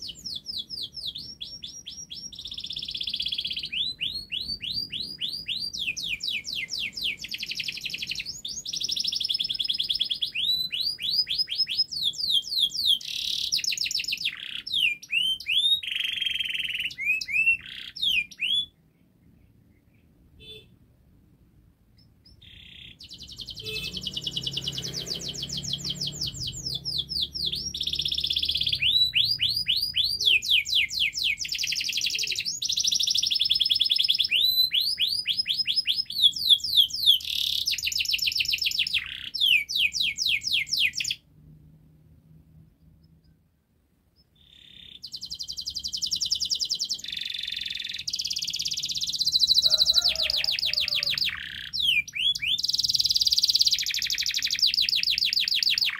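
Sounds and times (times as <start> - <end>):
canary singing trills: 0.0 - 20.9, 21.9 - 41.2, 44.1 - 55.9.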